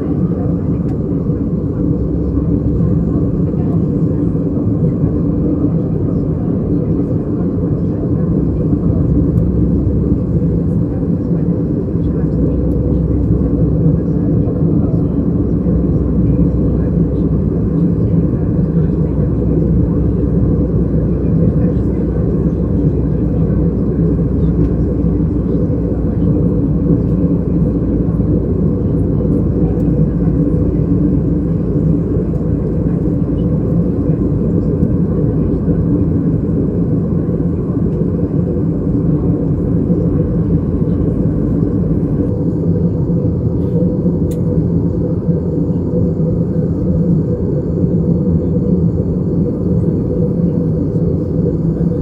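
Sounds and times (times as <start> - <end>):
airplane cabin drone: 0.0 - 52.0
steady hum: 0.0 - 52.0.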